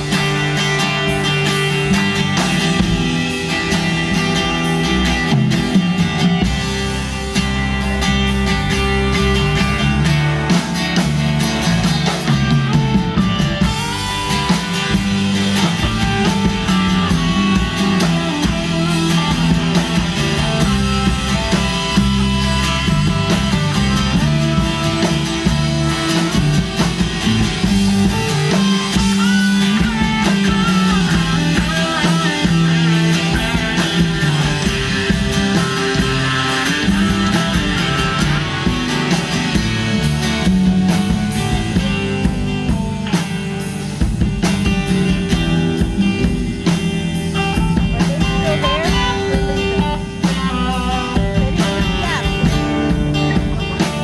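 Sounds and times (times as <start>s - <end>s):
bass: 0.0s - 54.0s
drums: 0.0s - 54.0s
electric guitar lead: 0.0s - 54.0s.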